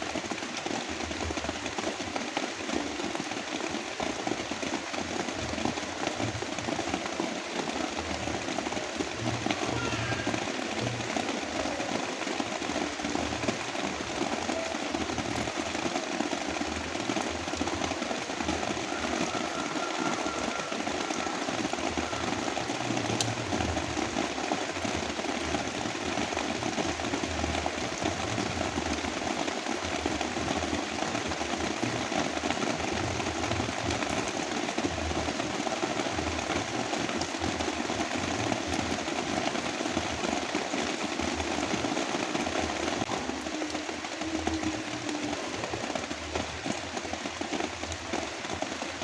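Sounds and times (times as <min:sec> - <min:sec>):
heavy rain pouring: 0:00.0 - 0:49.0.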